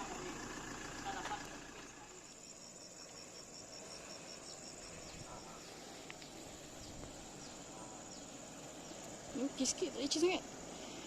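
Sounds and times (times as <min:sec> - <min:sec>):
high insect drone: 0:00.0 - 0:11.0
rapid pulsed insect chirp: 0:00.0 - 0:11.0.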